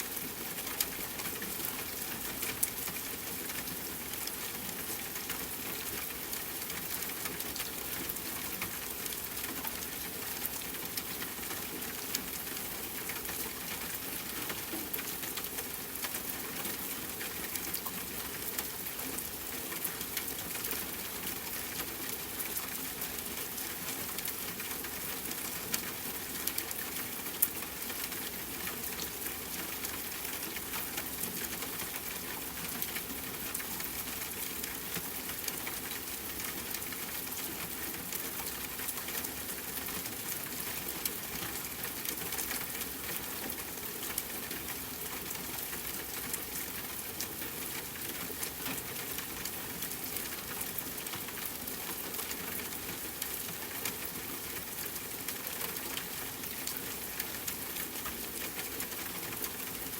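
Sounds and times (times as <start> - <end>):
rain pattering on a tent: 0.0 - 59.9.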